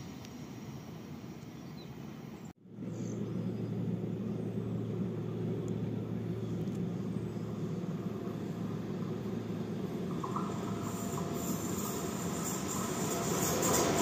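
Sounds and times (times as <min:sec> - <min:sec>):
constant hum: 0:00.0 - 0:14.0
train low rumble: 0:00.0 - 0:14.0.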